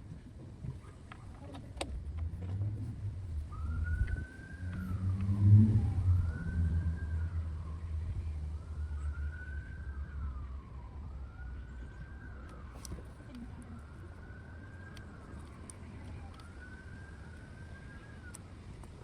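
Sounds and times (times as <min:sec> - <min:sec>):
vehicle engine rumbling: 0:00.0 - 0:19.0
siren wailing: 0:03.4 - 0:18.8.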